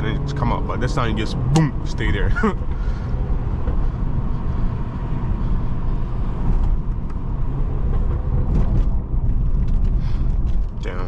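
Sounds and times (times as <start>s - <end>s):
car engine and exhaust rumble: 0.0s - 11.0s
road noise: 0.0s - 11.0s.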